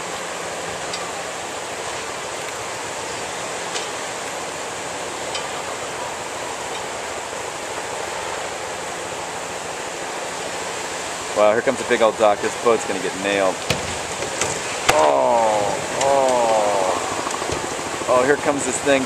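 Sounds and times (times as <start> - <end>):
surge water rushing: 0.0 - 19.0.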